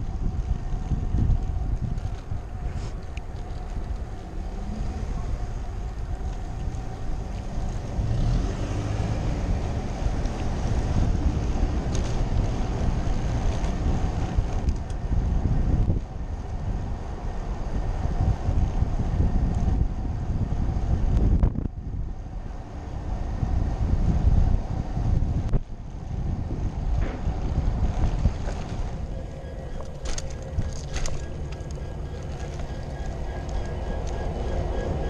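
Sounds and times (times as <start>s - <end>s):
low rumble of road traffic: 0.0s - 35.0s
wind buffeting microphone: 0.0s - 35.0s.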